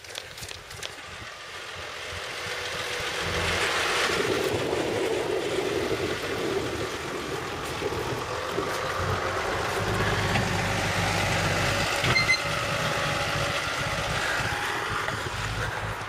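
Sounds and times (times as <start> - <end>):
tractor diesel engine driving past: 0.8 - 16.0.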